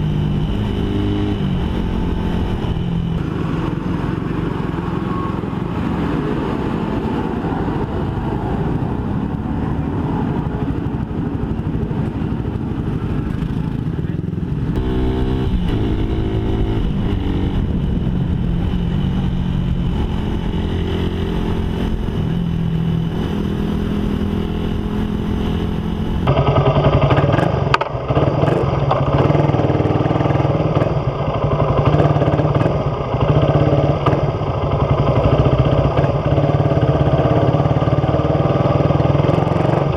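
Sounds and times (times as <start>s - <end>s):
motorcycle engine running: 0.0s - 7.2s, 9.1s - 39.9s.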